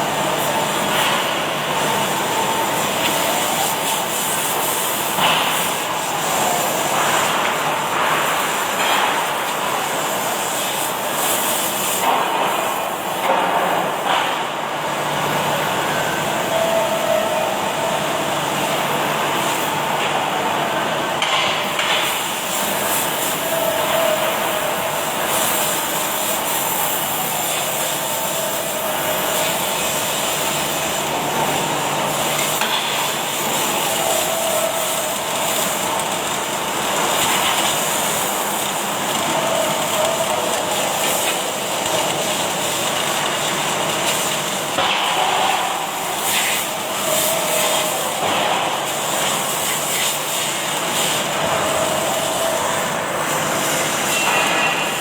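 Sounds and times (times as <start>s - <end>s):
welding arc hissing: 0.0s - 55.0s.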